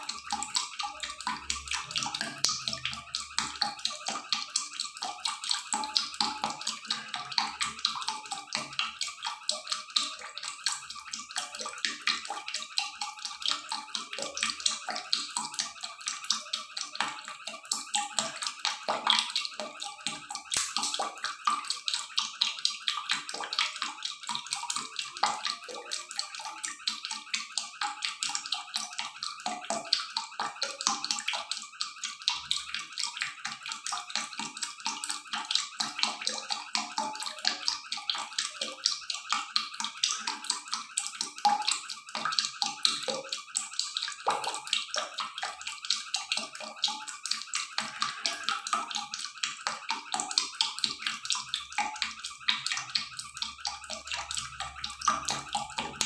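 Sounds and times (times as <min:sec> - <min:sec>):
water bubbling in a wok: 0:00.0 - 0:56.0.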